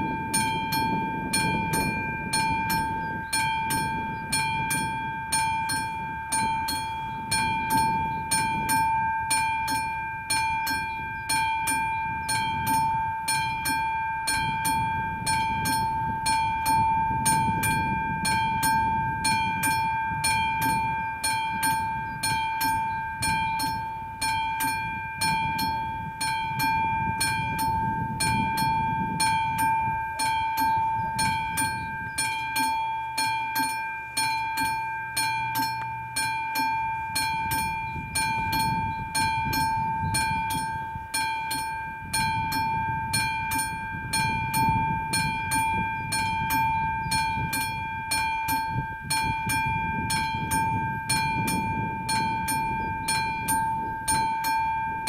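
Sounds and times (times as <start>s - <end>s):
level crossing bell ringing: 0.0s - 55.0s.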